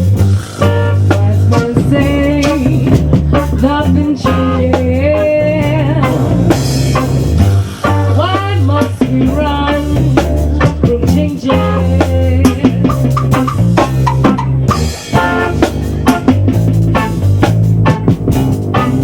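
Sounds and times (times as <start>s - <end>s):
drum kit beat: 0.0s - 19.0s
guitar: 0.0s - 19.0s
low bass notes: 0.0s - 19.0s
rock band playing live: 0.0s - 19.0s.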